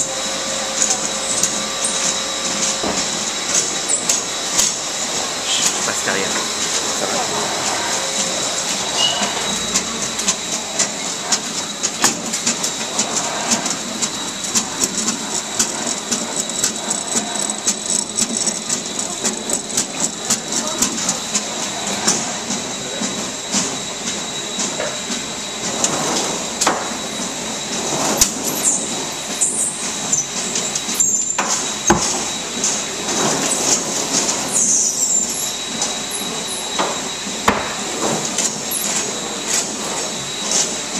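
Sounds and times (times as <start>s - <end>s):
machinery whining and rattling: 0.0s - 40.9s.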